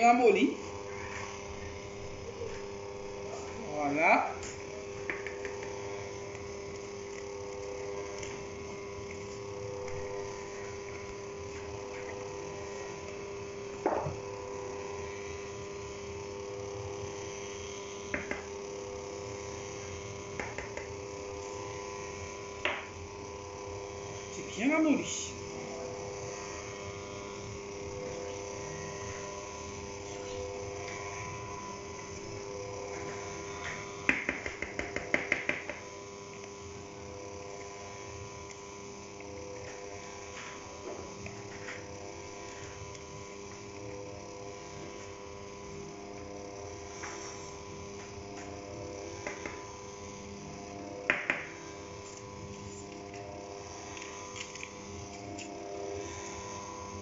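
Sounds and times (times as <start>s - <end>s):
stand mixer motor humming: 0.0s - 57.0s.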